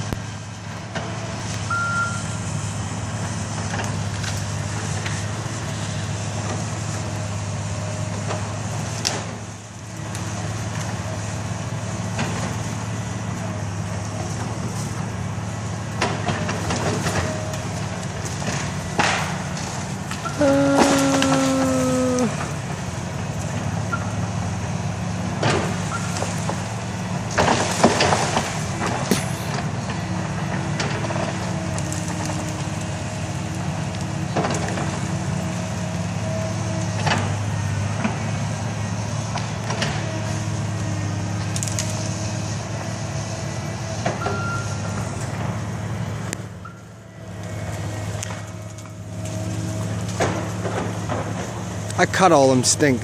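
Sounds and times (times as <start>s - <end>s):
engine whine: 0.0s - 53.0s
excavator diesel engine running: 0.0s - 53.0s
trees cracking and crashing: 2.8s - 53.0s.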